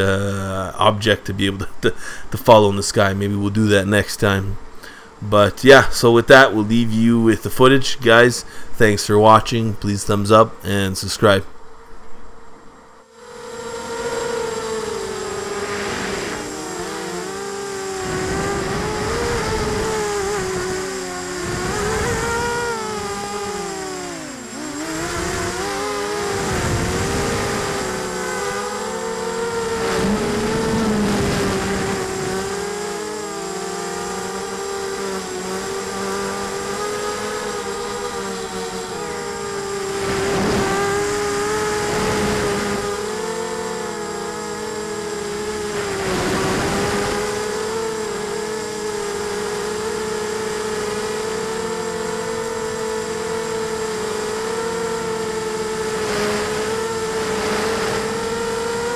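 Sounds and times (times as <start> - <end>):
quadcopter motors whining: 0.0 - 58.9.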